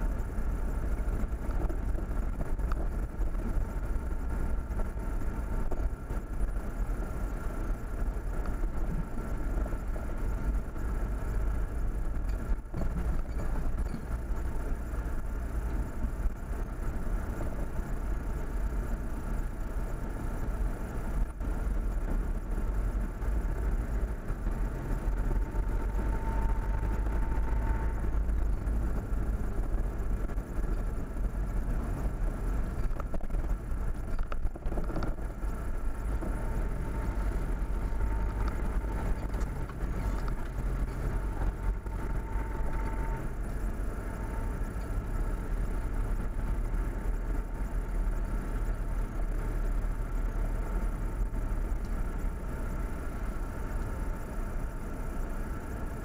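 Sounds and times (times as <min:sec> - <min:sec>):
faint whine: 0:00.0 - 0:56.0
vehicle engine rumbling: 0:00.0 - 0:56.0.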